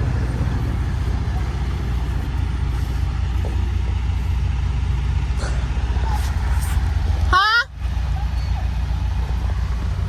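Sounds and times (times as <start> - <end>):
road noise: 0.0 - 10.0
truck diesel engine driving: 0.0 - 10.0.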